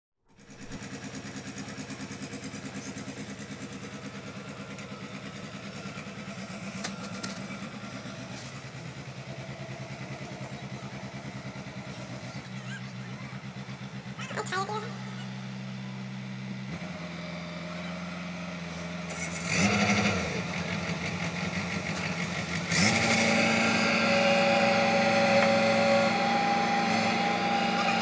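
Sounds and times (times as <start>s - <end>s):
excavator diesel engine running: 0.3s - 28.0s.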